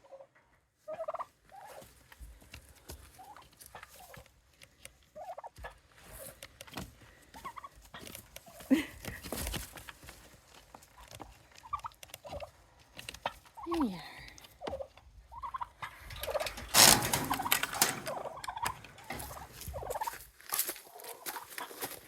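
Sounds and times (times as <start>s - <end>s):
turkeys yelping and clucking: 0.0s - 22.0s.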